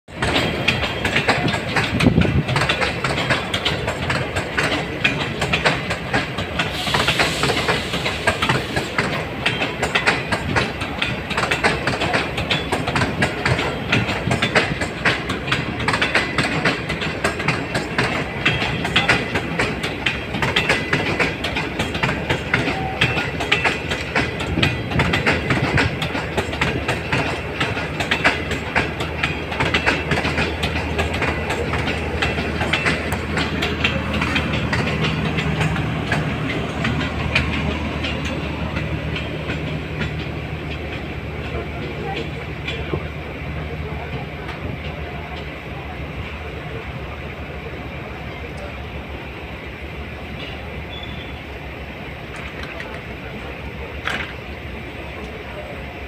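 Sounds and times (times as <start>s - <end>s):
wheels clacking over rail joints: 0.1s - 48.8s, 49.8s - 55.8s
train rumbling: 0.1s - 56.0s.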